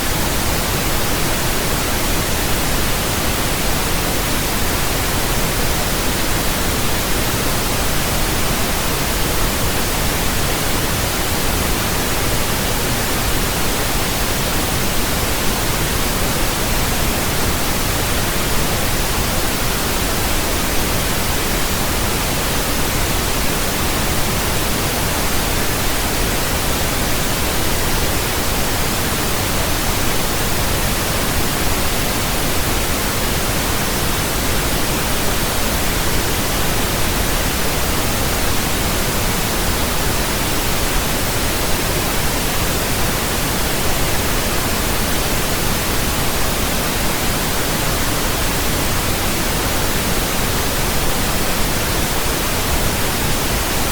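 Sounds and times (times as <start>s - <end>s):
pink noise hiss: 0.0s - 53.9s.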